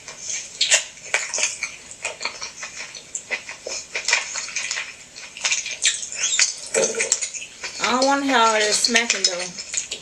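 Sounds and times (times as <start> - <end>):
wet lip smacking and chewing: 0.0 - 7.9, 8.5 - 10.0.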